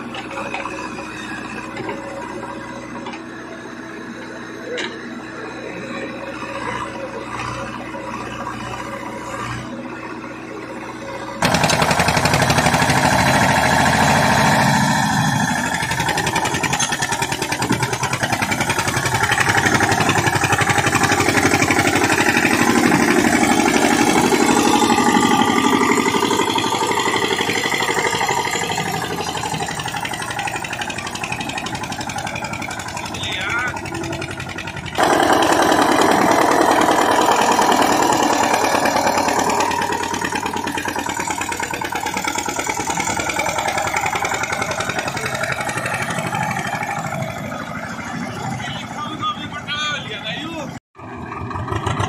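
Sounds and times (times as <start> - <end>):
tractor diesel engine: 0.0 - 52.0.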